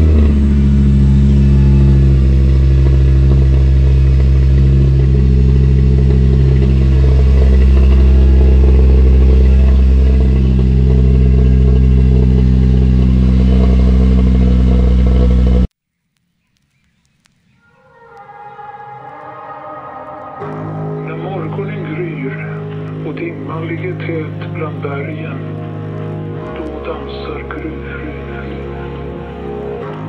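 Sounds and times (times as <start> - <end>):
car engine idling: 0.0 - 15.7, 19.8 - 30.0.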